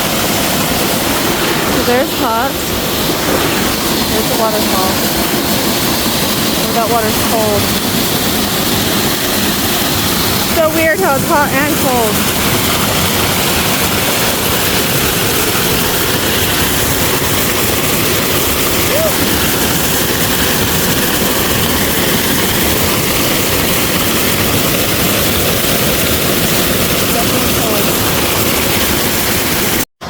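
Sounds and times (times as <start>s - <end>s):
waterfall rushing water: 0.0s - 29.8s.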